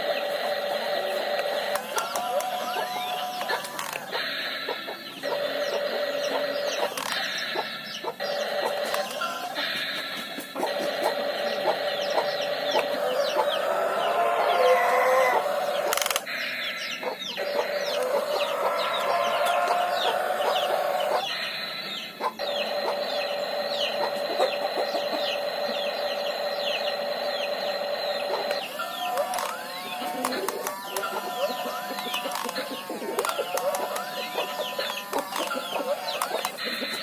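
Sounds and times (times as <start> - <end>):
birds chirping: 0.0 - 37.0
steady whine: 0.0 - 37.0.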